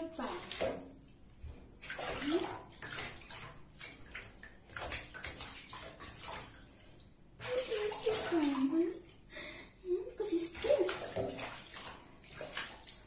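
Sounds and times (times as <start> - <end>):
water splashing in a bathtub: 0.0 - 13.0.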